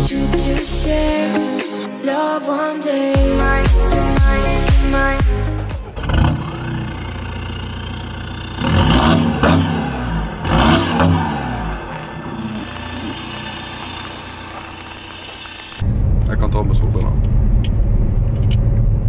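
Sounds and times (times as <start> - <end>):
car engine idling and revving: 3.2 - 19.0.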